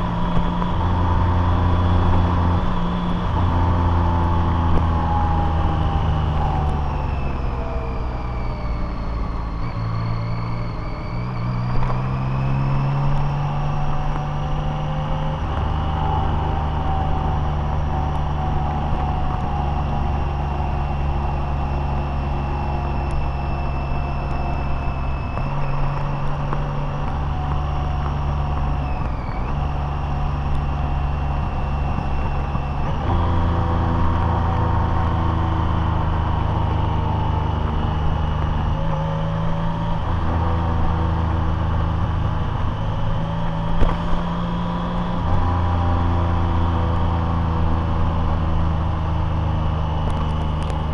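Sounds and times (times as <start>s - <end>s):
car engine: 0.0s - 50.9s
high whine: 0.0s - 50.9s
road noise: 0.0s - 50.9s.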